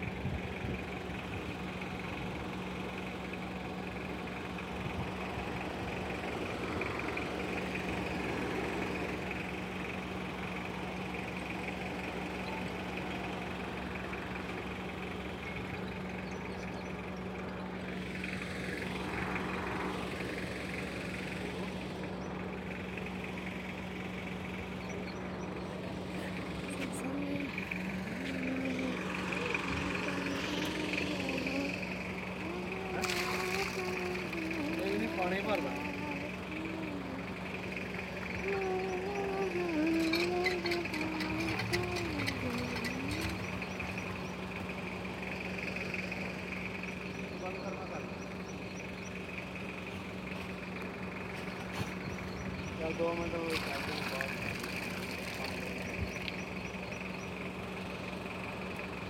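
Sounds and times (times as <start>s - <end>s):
pump motor humming: 0.0s - 59.0s.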